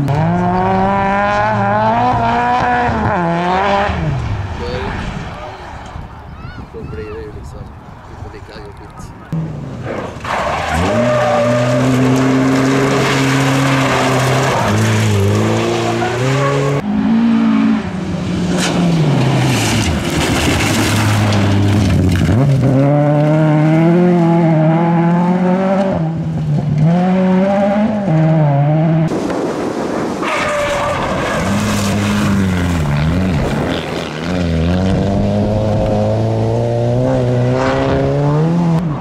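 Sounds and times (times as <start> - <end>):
rally car engines revving: 0.0 - 6.3, 8.1 - 39.0.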